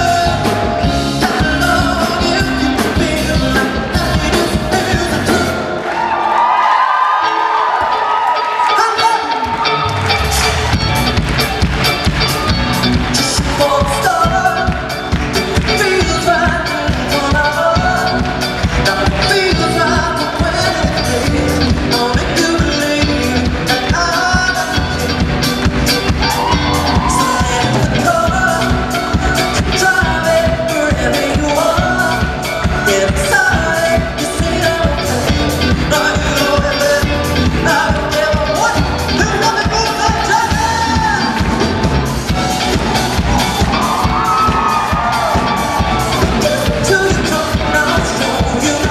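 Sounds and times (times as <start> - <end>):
steady drum beat: 0.0 - 5.7, 10.0 - 48.9
man singing: 0.0 - 5.9, 12.9 - 41.9, 43.9 - 48.9
live pop band: 0.0 - 48.9.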